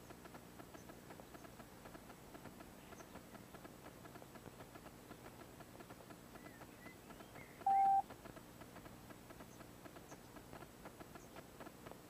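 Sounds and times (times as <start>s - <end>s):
soft ticks: 0.0s - 12.0s.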